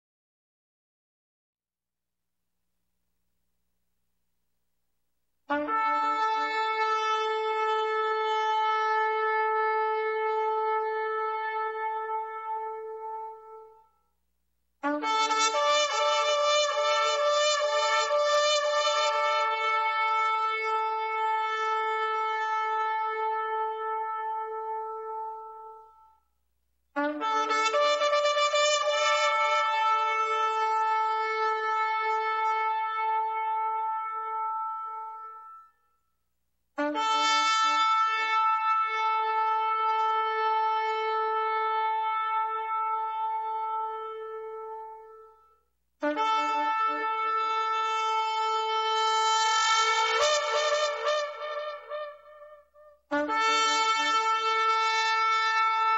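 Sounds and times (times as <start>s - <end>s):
shofar blast: 5.5s - 13.8s, 14.8s - 26.0s, 27.0s - 35.8s, 36.8s - 45.4s, 46.0s - 55.9s.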